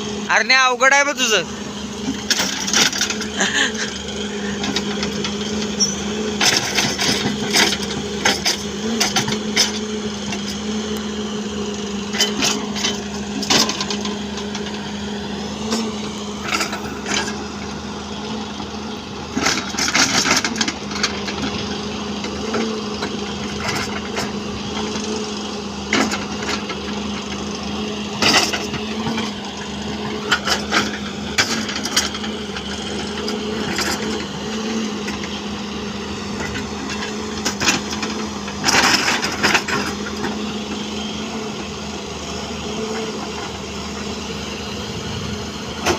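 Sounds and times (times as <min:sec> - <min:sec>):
machine motor humming: 0:00.0 - 0:45.9.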